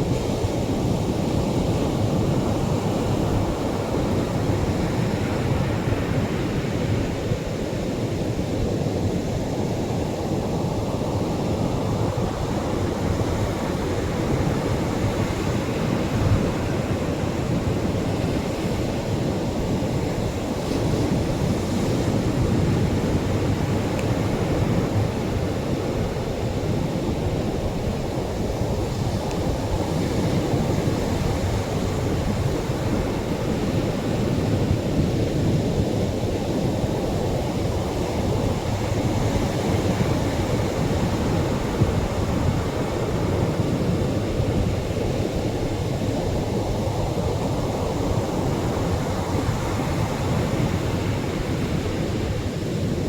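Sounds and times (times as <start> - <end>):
surf washing on a beach: 0.0 - 53.0.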